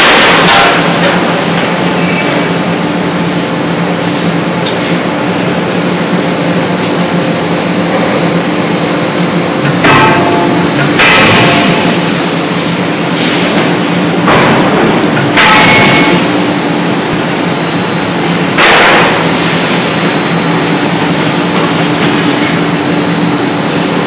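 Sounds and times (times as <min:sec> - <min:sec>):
high whine: 0:00.0 - 0:24.0.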